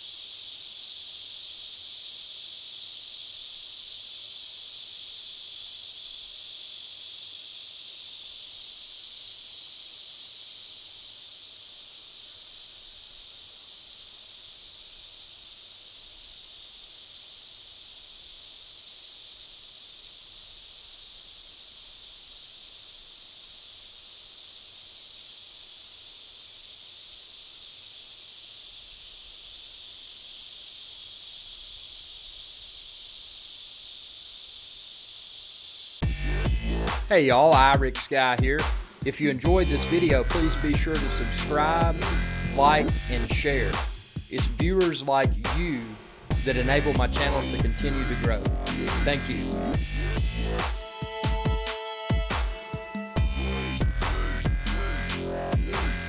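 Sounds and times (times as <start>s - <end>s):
cicadas buzzing: 0.0s - 56.0s.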